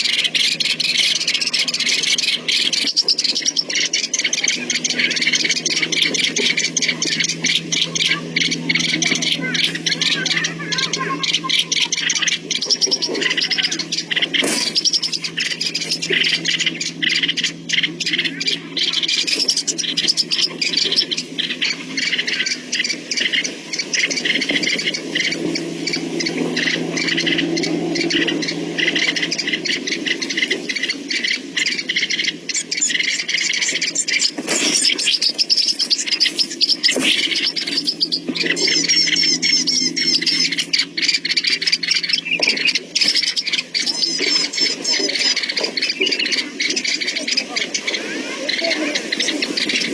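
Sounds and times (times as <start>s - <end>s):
small bird chirping: 0.0s - 49.9s
steady low hum: 0.0s - 49.9s.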